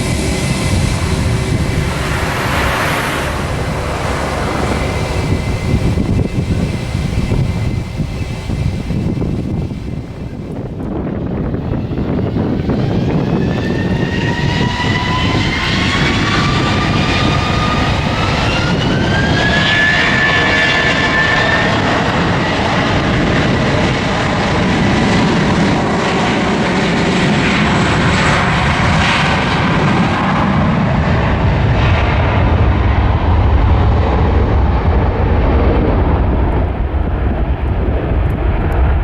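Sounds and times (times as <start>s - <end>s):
jet engines roaring with whine: 0.0s - 39.0s.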